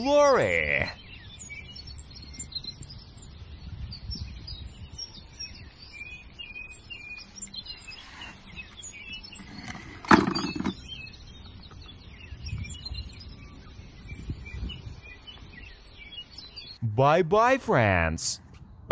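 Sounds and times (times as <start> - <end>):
songbirds chirping: 0.0 - 18.9.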